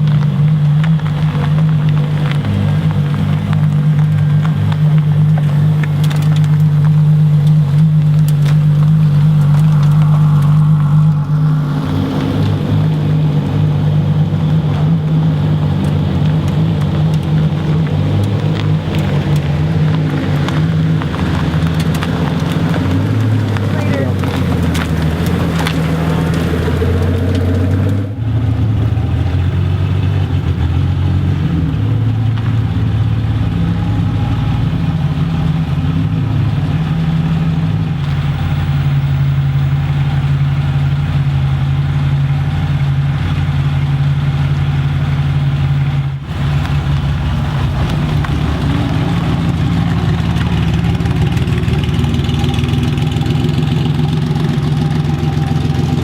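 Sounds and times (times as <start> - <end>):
car engines idling with revs: 0.0 - 56.0.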